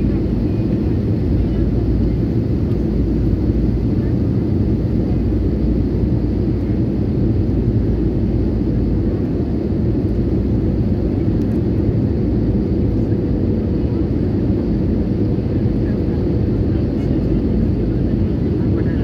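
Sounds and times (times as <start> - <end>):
jet engine and airflow rush: 0.0 - 19.0.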